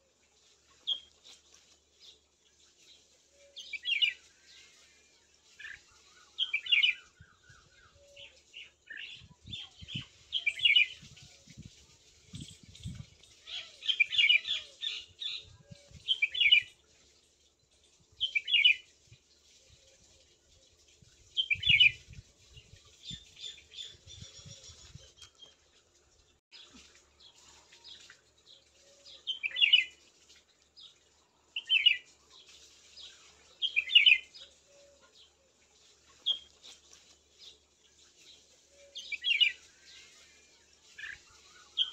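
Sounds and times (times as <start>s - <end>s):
small birds chirping: 0.4s - 41.9s.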